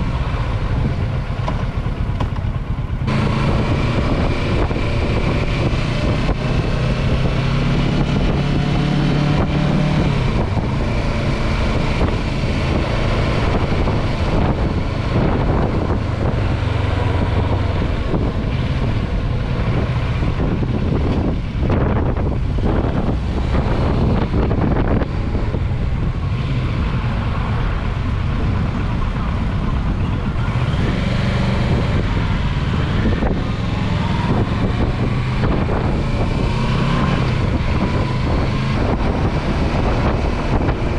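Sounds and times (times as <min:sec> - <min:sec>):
motorcycle engine running: 0:00.0 - 0:40.9
wind rumbling on microphone: 0:00.0 - 0:40.9.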